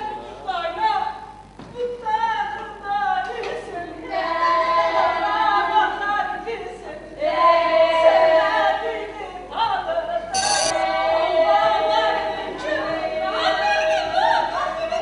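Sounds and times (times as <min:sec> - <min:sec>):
women singing together: 0:01.8 - 0:15.0.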